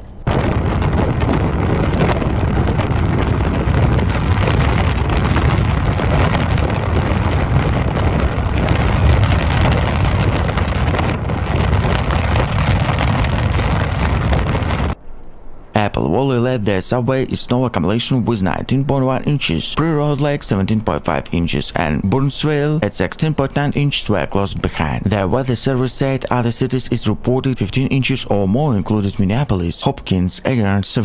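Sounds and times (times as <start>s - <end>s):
strong wind on microphone: 0.0s - 29.6s.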